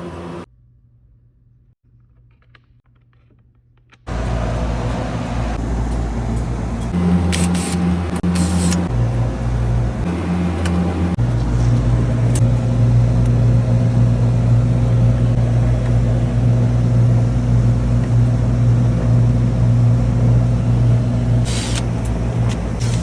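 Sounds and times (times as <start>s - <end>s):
air conditioning unit humming: 0.0s - 0.5s, 4.1s - 23.0s.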